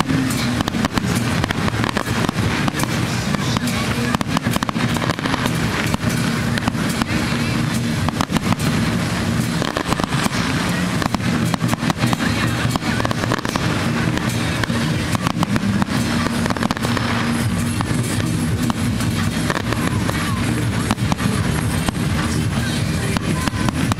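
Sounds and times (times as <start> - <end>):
fireworks bangs and crackles: 0.0 - 23.9
music playing: 0.0 - 23.9.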